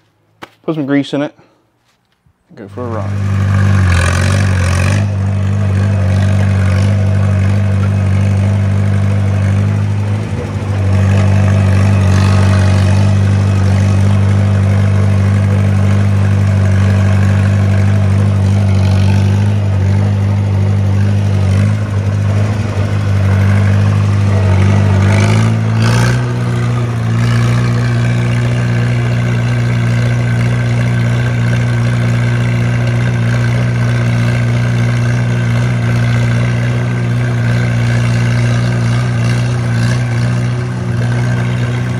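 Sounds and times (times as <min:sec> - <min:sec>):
tractor engine running: 0:02.5 - 0:41.9.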